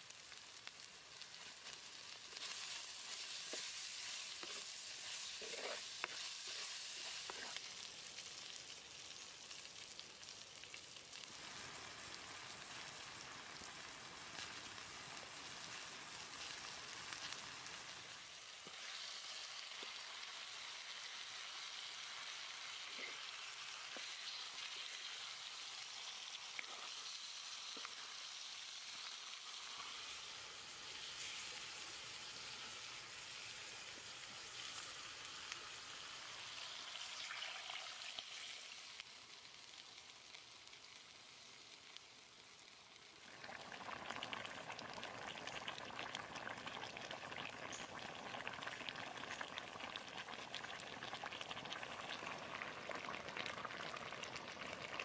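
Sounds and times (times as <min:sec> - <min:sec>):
fish sizzling in a wok: 0:00.0 - 0:55.0.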